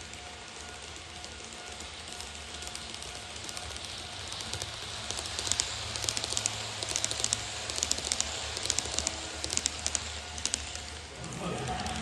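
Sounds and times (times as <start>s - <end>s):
model train wheels clicking: 0.0s - 12.0s.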